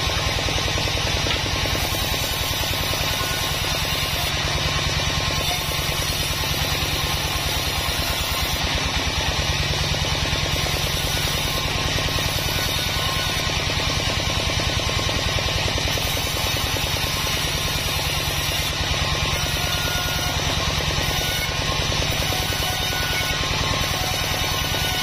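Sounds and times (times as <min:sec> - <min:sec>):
band saw cutting wood: 0:00.0 - 0:25.0
low pulsing from drive: 0:00.0 - 0:25.0.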